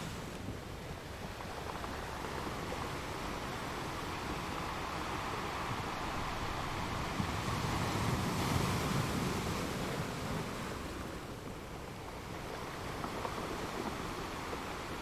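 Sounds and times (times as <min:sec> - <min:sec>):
waves washing on shore: 0:00.0 - 0:15.0.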